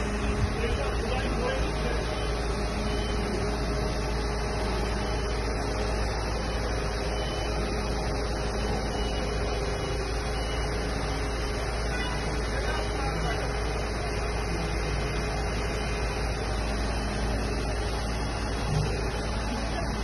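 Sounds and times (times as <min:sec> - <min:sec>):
fire truck engine humming: 0:00.0 - 0:20.0.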